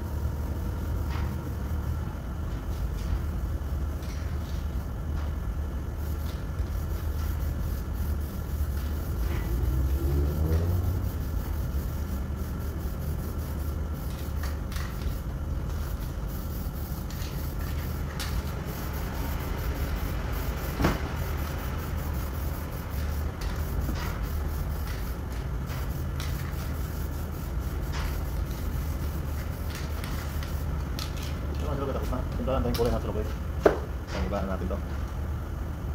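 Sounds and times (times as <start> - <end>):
workshop low rumble: 0.0 - 35.9.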